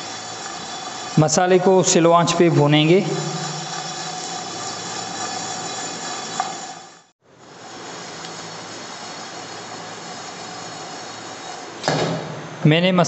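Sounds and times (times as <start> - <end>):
spices rattling in a pan: 0.0 - 11.8
steady hiss: 0.0 - 13.0.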